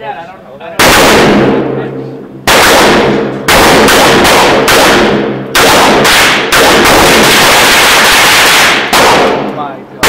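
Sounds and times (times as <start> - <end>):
echoing handgun shots: 0.8 - 9.7.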